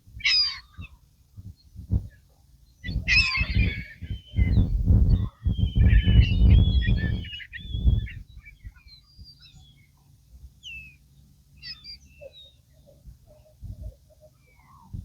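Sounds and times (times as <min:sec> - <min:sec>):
flock of birds calling: 0:00.2 - 0:01.0, 0:02.8 - 0:11.0, 0:11.6 - 0:15.0.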